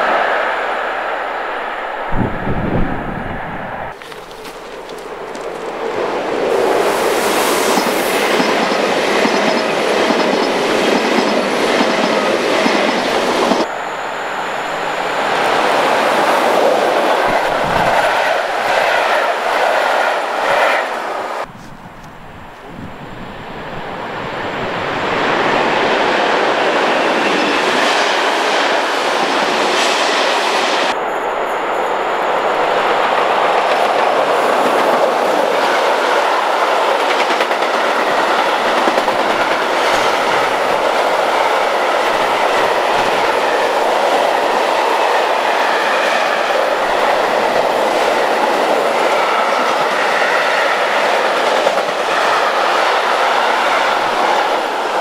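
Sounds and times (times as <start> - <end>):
freight train running by: 0.0 - 55.0
high-speed train rushing past: 0.0 - 55.0.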